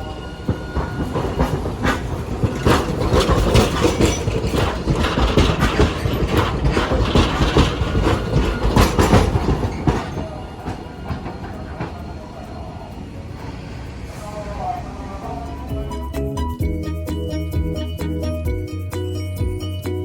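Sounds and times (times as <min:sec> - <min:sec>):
streetcar wheel clacks over rail joints: 0:00.0 - 0:16.6
low running rumble: 0:01.0 - 0:18.6.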